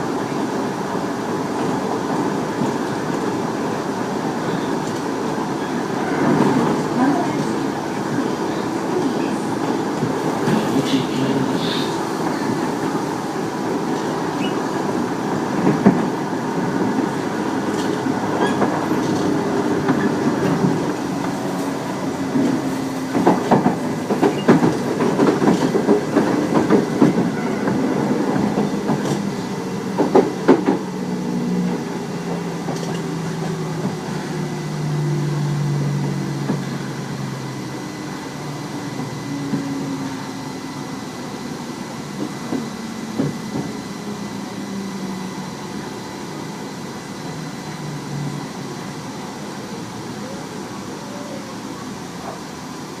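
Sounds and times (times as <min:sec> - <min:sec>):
train interior rumble: 0:00.0 - 0:53.0.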